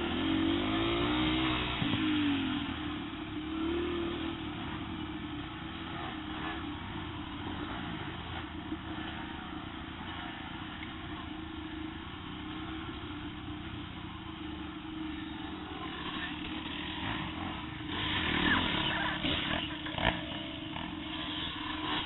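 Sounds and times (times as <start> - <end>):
dirt bike engine running: 0.0 - 22.0
trail noise: 0.0 - 22.0
wind: 0.0 - 22.0.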